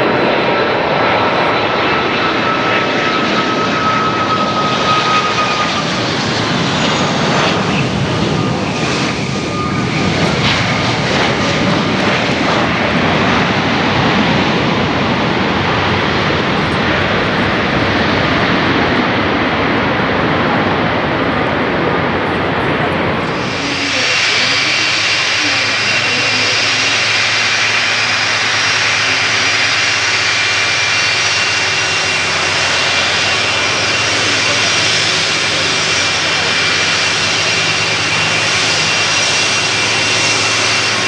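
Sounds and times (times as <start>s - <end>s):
high engine whine: 0.0s - 41.0s
jet engine roar: 0.0s - 41.0s.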